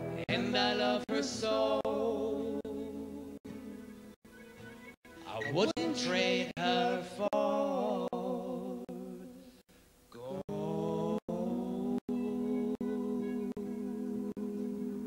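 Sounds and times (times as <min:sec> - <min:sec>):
man singing wordlessly: 0:00.0 - 0:03.6, 0:05.3 - 0:09.4, 0:10.1 - 0:15.0.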